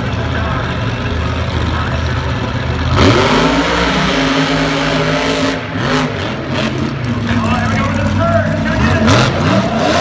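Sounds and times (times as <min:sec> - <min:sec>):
truck engine idling and revving: 0:00.0 - 0:10.0.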